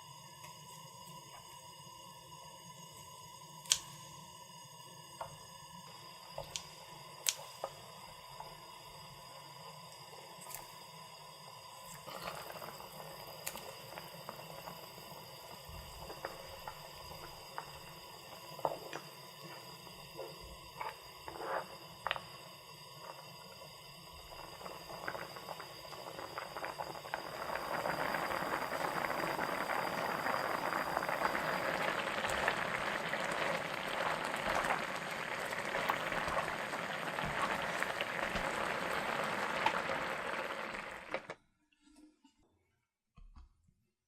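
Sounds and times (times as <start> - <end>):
food sizzling in a hot pan: 0.0 - 41.3.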